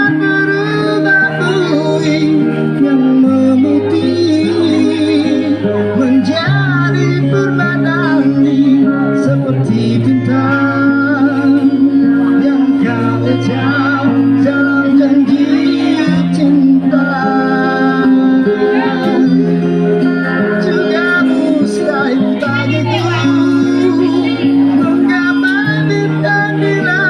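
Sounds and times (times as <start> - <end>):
held bass chords: 0.0 - 27.0.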